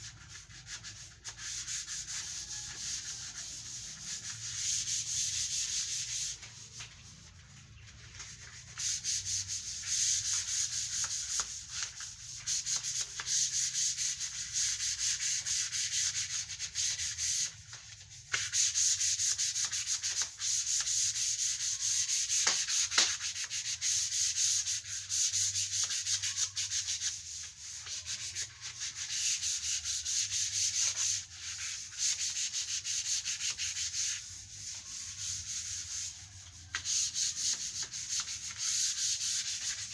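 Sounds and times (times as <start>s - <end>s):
sandpaper rubbing on wood: 0.0s - 39.9s.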